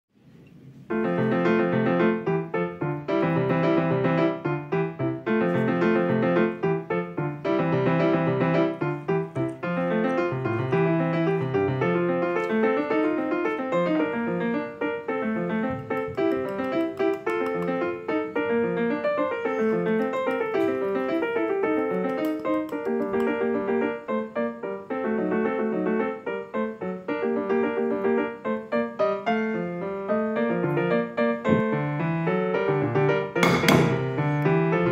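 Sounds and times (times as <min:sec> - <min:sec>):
piano music: 0:00.8 - 0:34.9.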